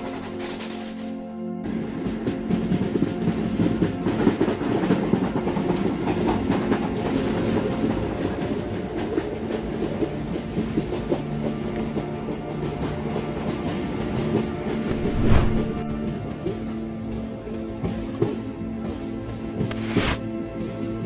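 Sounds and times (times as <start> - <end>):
train wheels clattering on rails: 0.0 - 15.0, 15.8 - 19.7.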